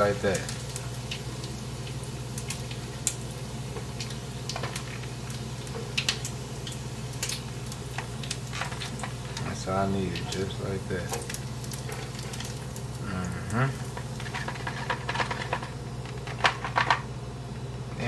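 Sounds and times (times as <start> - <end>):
grease popping: 0.0 - 17.2
bacon frying in a pan: 0.0 - 18.0
steady low hum: 0.0 - 18.0.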